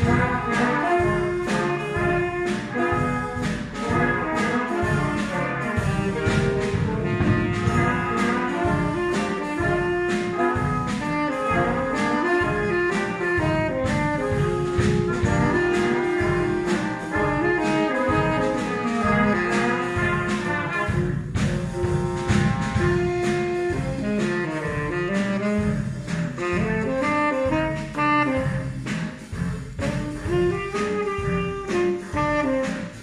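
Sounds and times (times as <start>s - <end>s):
steady drum beat: 0.0s - 33.0s
wind band playing: 0.0s - 33.0s.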